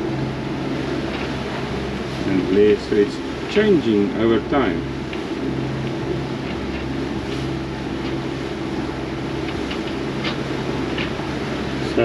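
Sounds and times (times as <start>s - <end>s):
boat diesel engine drone: 0.0s - 12.0s.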